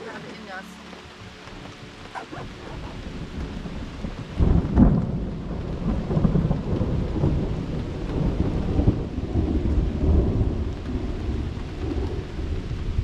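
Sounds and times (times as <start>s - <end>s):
rain falling: 0.0s - 13.0s
thunder rumble: 1.4s - 13.0s.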